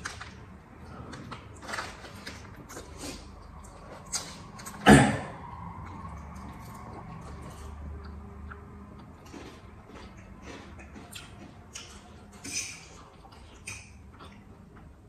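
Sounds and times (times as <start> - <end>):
chewing and slurping noodles: 0.0 - 4.8, 5.5 - 14.8.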